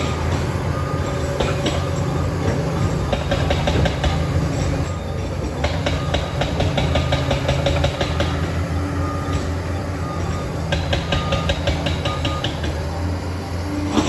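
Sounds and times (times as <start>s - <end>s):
diesel engine running: 0.0s - 14.0s
steel tracks clattering: 0.0s - 14.0s.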